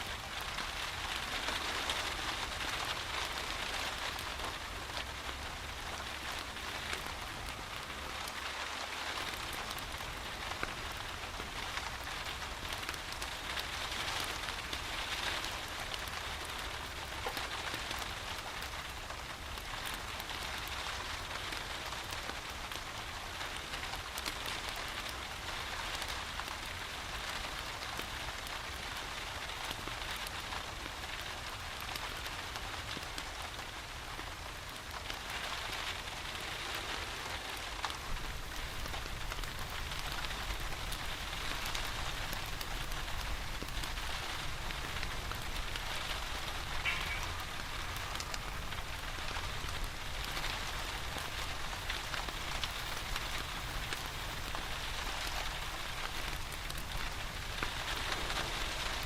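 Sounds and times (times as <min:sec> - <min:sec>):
steady rain hiss: 0:00.0 - 0:59.0
raindrop ticks: 0:00.2 - 0:59.0.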